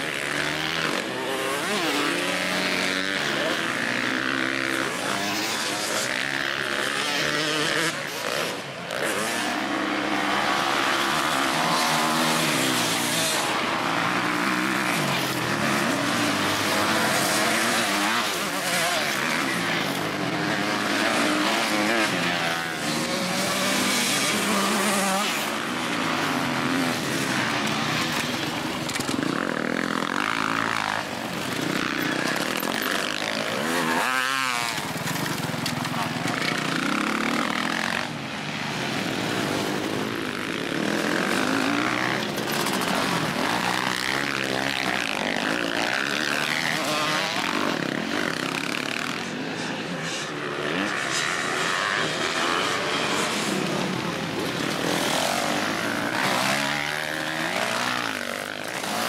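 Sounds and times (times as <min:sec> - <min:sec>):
motocross bike engines revving: 0:00.0 - 0:59.0.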